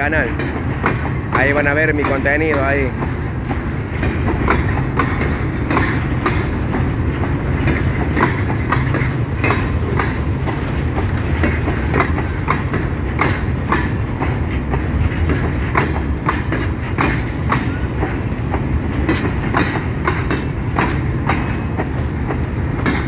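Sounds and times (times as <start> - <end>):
freight wagons rumbling: 0.0 - 23.0
wheels clacking on rail joints: 0.0 - 23.0.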